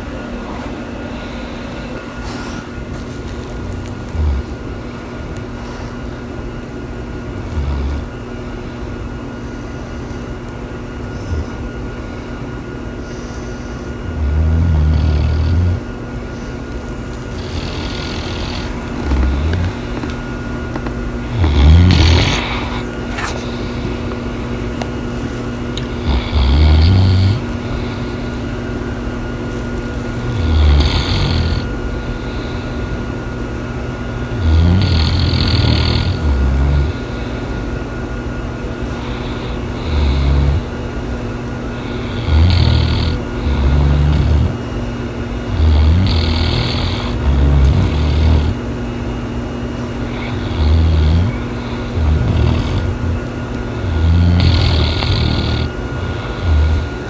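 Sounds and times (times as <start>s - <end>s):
dog snoring: 0.0s - 6.2s, 7.0s - 10.3s, 11.0s - 33.3s, 34.1s - 37.8s, 38.7s - 57.0s
faint hum: 0.0s - 57.0s.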